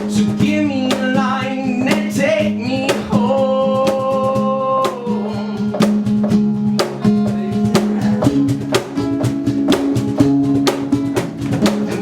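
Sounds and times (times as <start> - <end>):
drum kit beat: 0.0 - 12.0
live band playing: 0.0 - 12.0.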